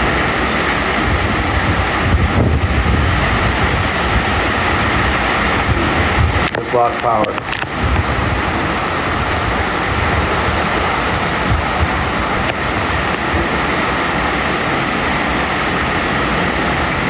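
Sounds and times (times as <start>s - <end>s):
hurricane wind rushing: 0.0s - 17.0s
wind buffeting microphone: 0.0s - 17.0s.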